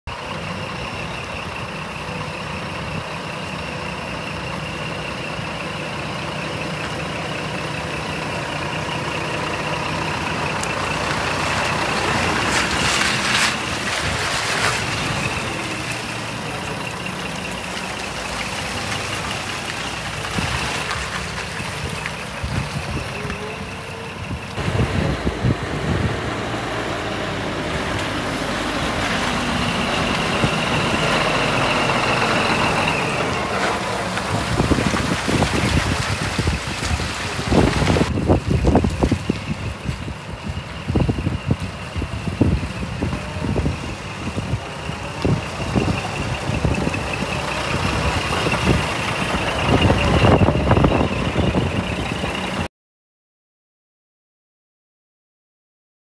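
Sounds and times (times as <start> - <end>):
diesel truck engine idling: 0.1 - 52.7.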